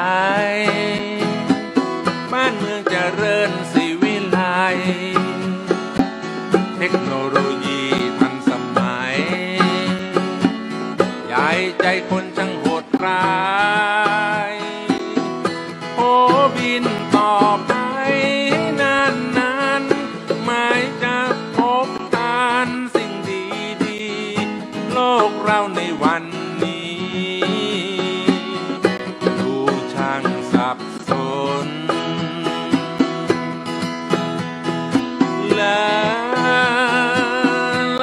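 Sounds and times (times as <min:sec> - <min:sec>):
plucked strings: 0:00.0 - 0:38.0.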